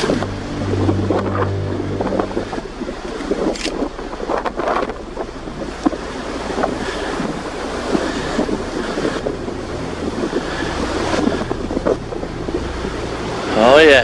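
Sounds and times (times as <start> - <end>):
wind gusting against microphone: 0.0 - 14.0.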